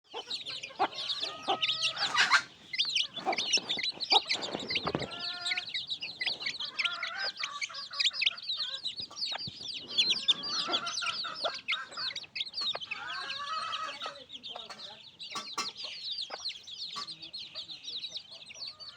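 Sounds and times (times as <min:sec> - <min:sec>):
chicks peeping: 0:00.0 - 0:18.9
hen clucking: 0:00.0 - 0:18.9.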